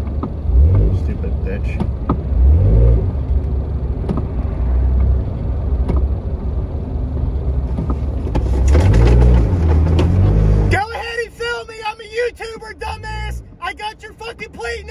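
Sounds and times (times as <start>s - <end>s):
engine and road rumble in car: 0.0s - 14.9s.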